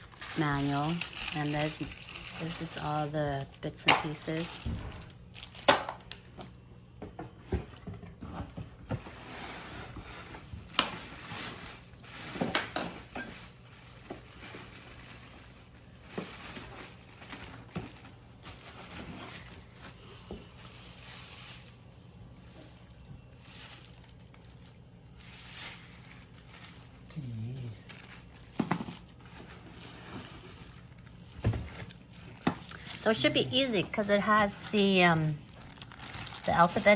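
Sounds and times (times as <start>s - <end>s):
plastic wrapping rustling: 0.0s - 6.6s, 7.4s - 36.9s.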